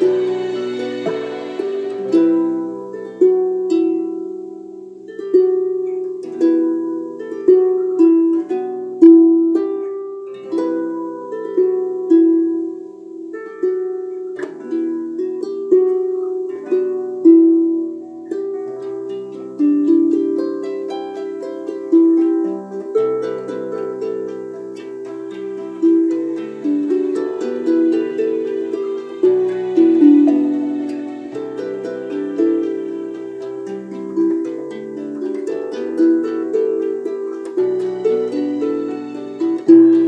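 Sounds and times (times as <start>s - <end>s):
harp plucked slow melody: 0.0s - 40.0s.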